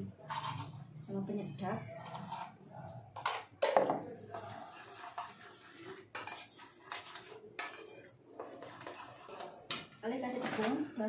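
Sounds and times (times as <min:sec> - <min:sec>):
spoon scraping bowl: 0:00.1 - 0:01.1, 0:01.7 - 0:09.9.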